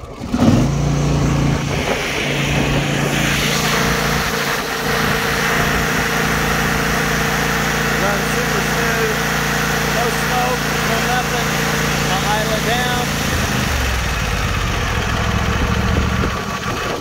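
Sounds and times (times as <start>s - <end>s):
mower engine starting: 0.0s - 17.0s.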